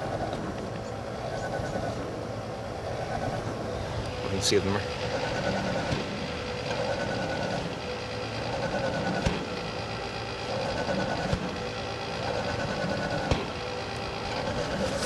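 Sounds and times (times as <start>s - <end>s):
wood stove chuffing: 0.0s - 15.0s.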